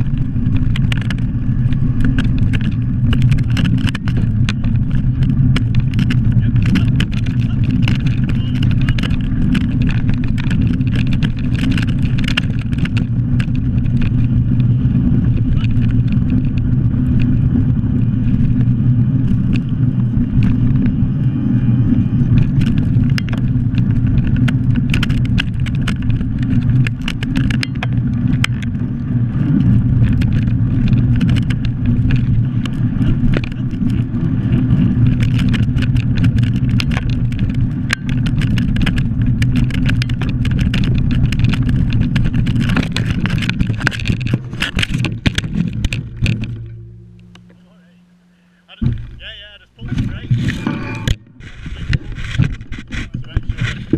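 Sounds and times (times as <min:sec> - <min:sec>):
wind on microphone: 0:00.0 - 0:47.5, 0:48.8 - 0:53.9
bike clicks and rattles: 0:00.0 - 0:47.8, 0:48.8 - 0:53.9
tyres rumbling on gravel: 0:00.0 - 0:48.0, 0:48.7 - 0:53.9.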